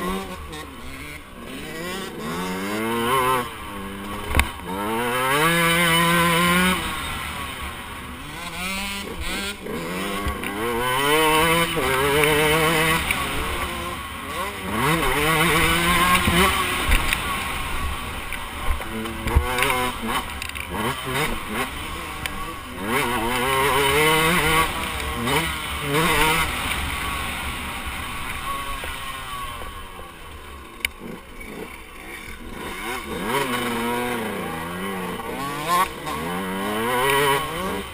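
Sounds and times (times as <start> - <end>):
motocross bike engine revving: 0.0 - 37.9.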